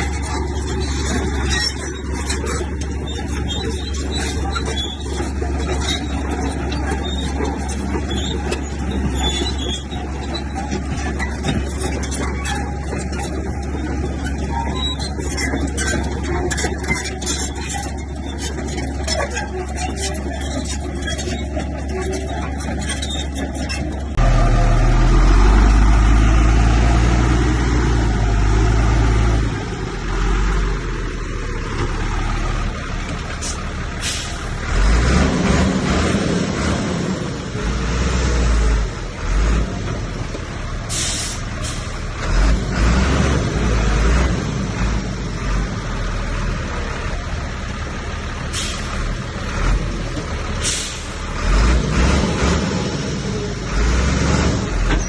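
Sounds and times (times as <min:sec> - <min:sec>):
bulldozer engine rumbling: 0:00.0 - 0:55.0.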